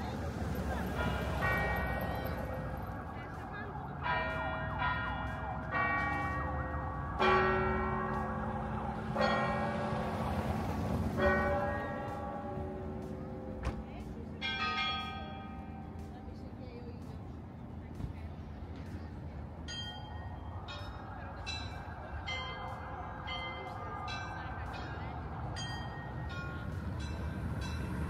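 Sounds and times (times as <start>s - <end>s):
church bells ringing: 0.0s - 16.3s, 19.6s - 28.0s.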